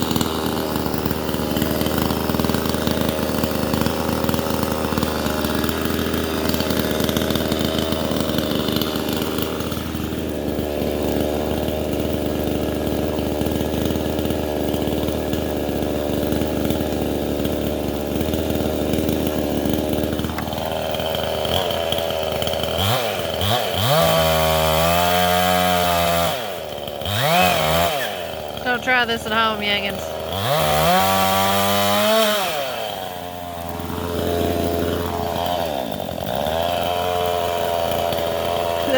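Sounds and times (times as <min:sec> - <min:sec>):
chainsaw cutting wood: 0:00.0 - 0:38.9
chainsaw engine revving: 0:00.0 - 0:38.9.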